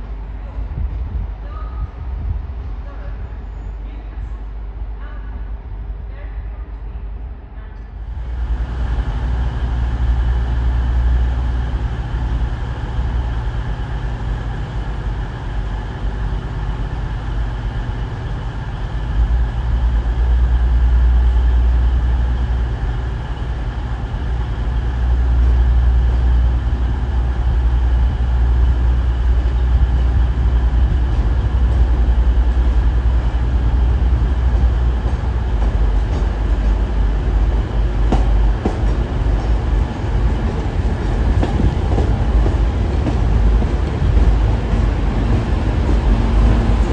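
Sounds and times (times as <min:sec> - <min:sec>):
train engine rumble: 0:00.0 - 0:46.9.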